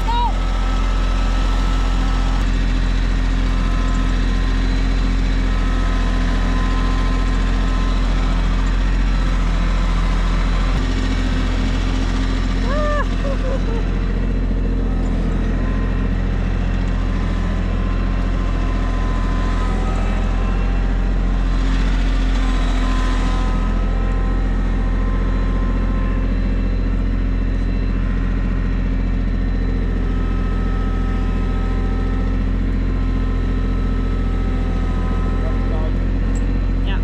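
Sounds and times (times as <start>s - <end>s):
tractor engine droning: 0.0s - 37.0s.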